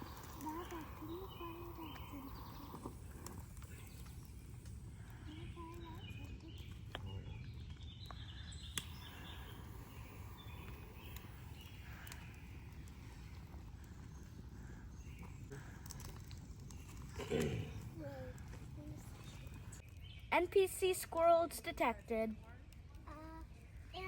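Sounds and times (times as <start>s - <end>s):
steady low rumble: 0.0s - 19.8s
faint bird chirps: 0.0s - 20.4s.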